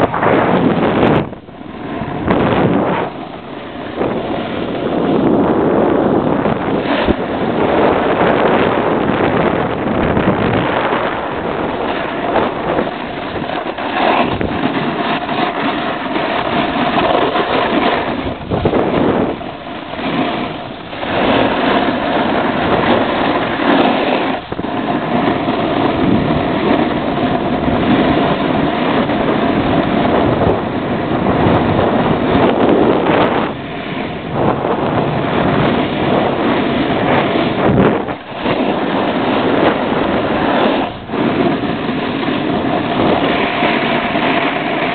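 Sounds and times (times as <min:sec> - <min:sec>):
snowboard scraping over snow: 0:00.0 - 0:44.9
wind over microphone: 0:00.0 - 0:44.9.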